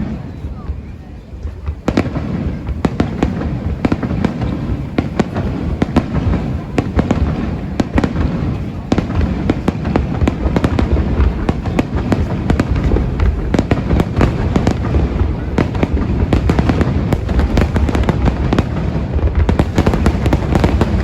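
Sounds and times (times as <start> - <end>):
fireworks bangs and crackles: 0.0 - 21.0
low rumble of booms: 1.4 - 21.0.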